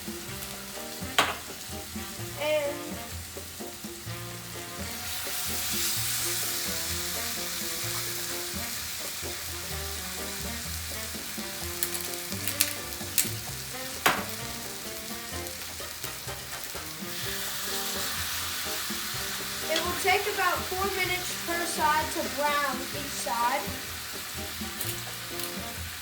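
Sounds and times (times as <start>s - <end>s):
chicken sizzling in frying pan: 0.0s - 26.0s.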